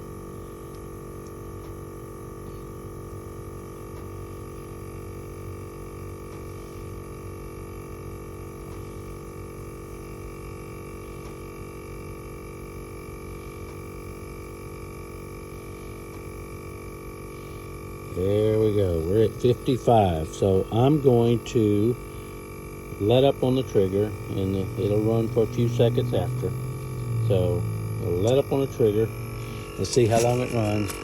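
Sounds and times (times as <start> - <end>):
air compressor motor humming: 0.0 - 31.0.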